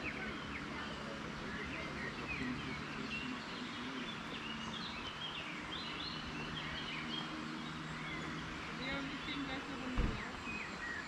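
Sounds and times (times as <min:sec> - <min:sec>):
songbirds chirping: 0:00.0 - 0:11.0
steady outdoor hiss: 0:00.0 - 0:11.0.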